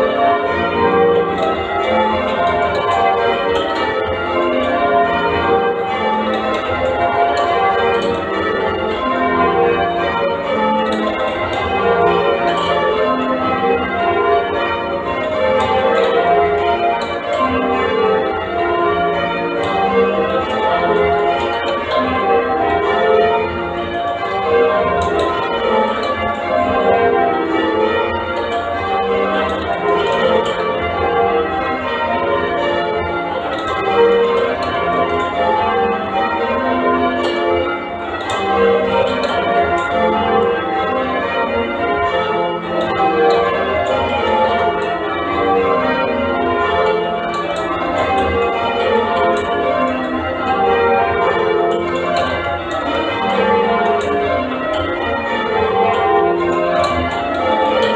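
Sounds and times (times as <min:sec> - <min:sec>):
church bells change ringing: 0:00.0 - 0:57.9.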